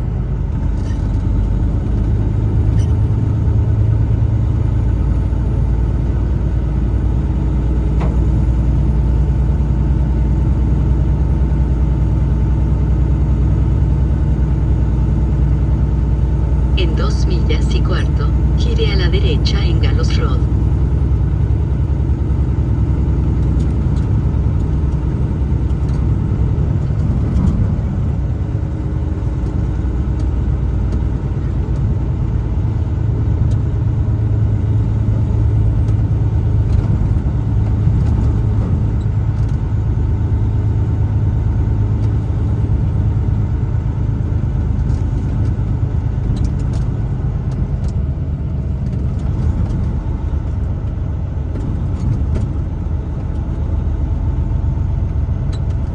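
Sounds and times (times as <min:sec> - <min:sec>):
truck engine and road rumble: 0:00.0 - 0:55.9.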